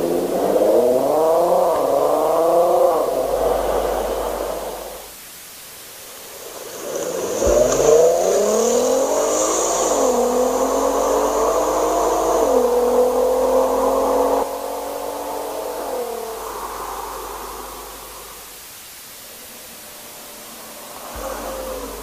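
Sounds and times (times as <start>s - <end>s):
car engine accelerating: 0.0s - 5.2s, 6.2s - 18.7s, 19.3s - 22.0s.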